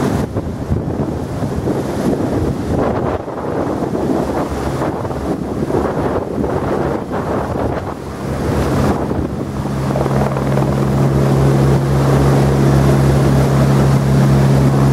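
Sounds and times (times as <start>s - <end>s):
helicopter engine and rotor: 0.0s - 14.9s
wind buffeting microphone: 0.0s - 14.9s.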